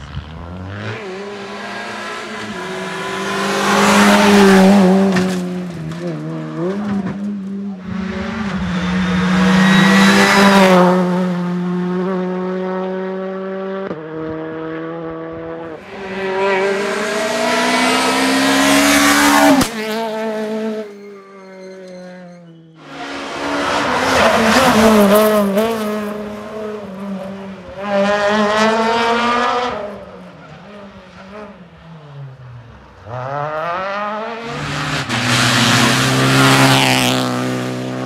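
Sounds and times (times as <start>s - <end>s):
rally car engine accelerating: 0.0s - 38.0s.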